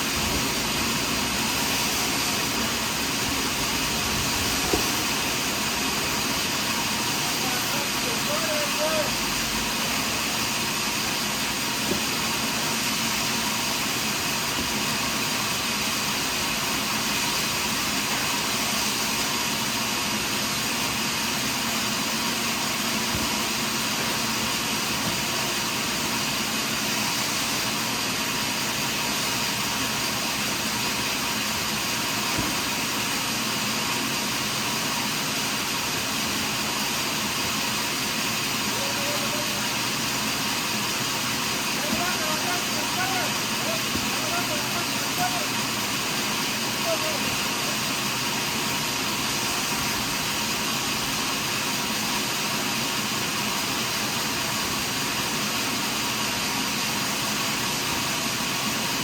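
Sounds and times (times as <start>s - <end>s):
sawmill sawing through log: 0.0s - 59.0s.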